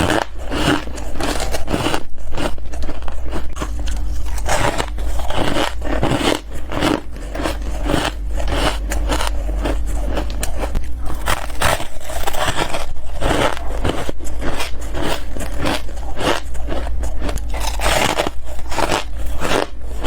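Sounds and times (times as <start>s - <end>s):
frost being bitten and chewed: 0.0s - 20.0s.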